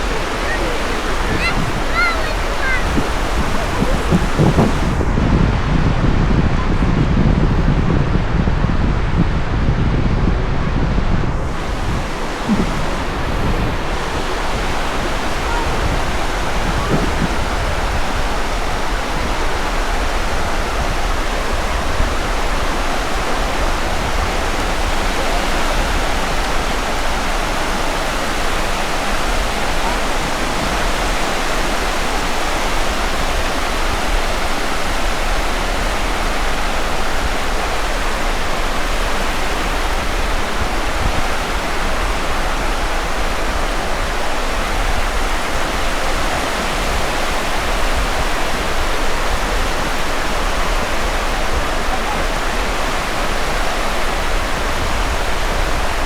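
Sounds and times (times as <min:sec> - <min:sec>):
surf wash: 0:00.0 - 0:56.0
wind on microphone: 0:00.0 - 0:56.0.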